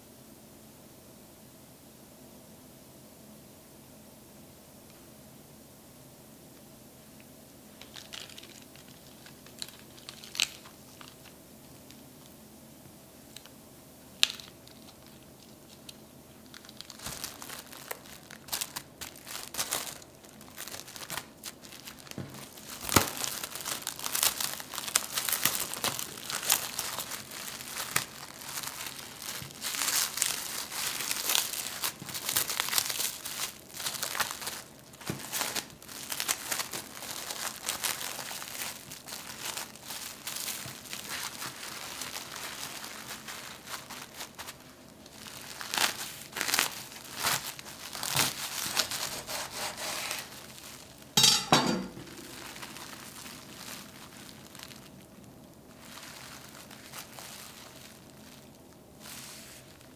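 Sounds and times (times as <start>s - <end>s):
cling film crinkling: 7.8s - 12.4s, 14.2s - 51.4s, 52.0s - 59.9s.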